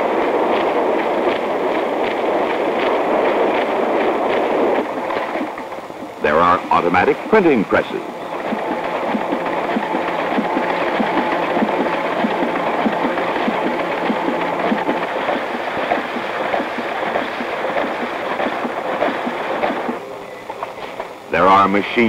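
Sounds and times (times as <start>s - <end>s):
printing press clattering: 0.0s - 22.0s.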